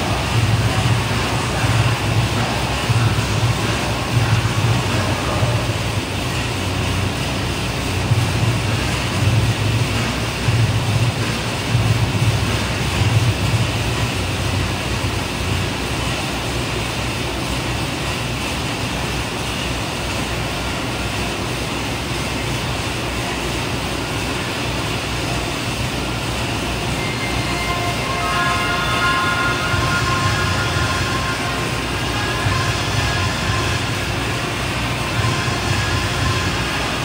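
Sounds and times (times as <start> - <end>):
exercise bike fan whirring: 0.0 - 37.0.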